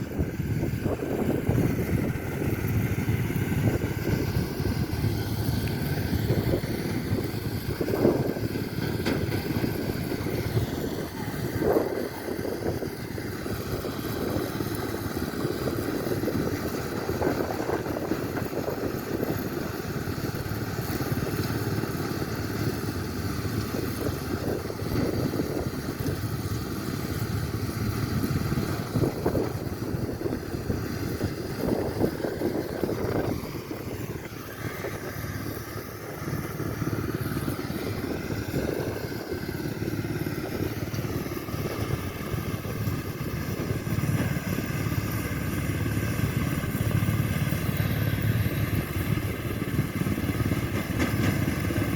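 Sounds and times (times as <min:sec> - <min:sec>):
harvester engine running: 0:00.0 - 0:51.9.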